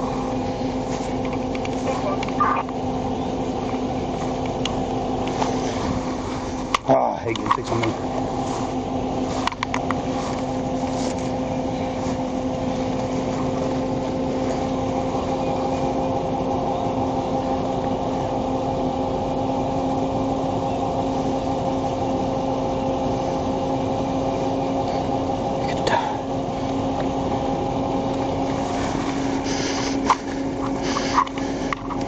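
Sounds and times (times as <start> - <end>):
car interior running hum: 0.0 - 32.0.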